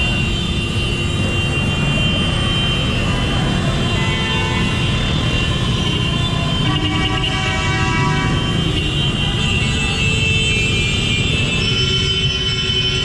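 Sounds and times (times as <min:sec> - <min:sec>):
vehicle horns: 0:00.0 - 0:13.0.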